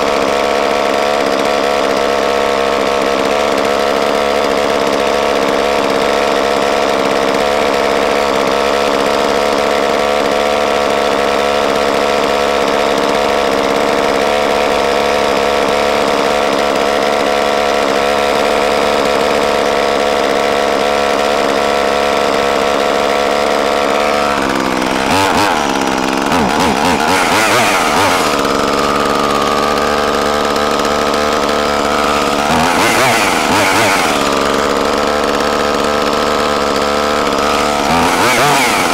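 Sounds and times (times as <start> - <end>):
chainsaw engine idling and revving: 0.0 - 38.9.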